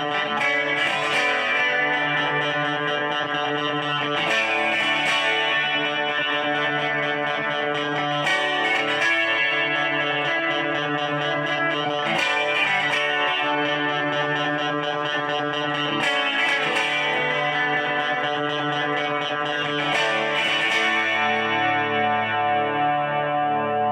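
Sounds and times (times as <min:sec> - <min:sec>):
clean electric guitar chords: 0:00.0 - 0:23.9.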